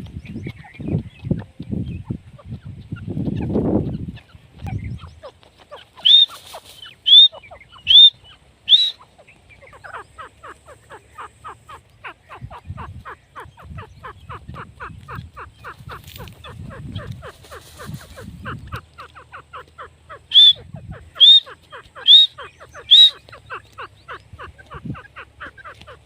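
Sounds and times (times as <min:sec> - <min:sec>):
francolin calling: 0:01.9 - 0:26.0.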